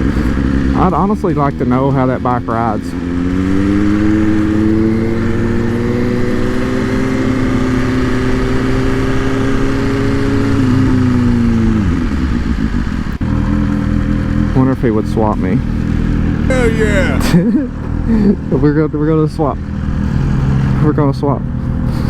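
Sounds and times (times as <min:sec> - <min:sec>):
motorcycle engine revving: 0:00.0 - 0:18.1.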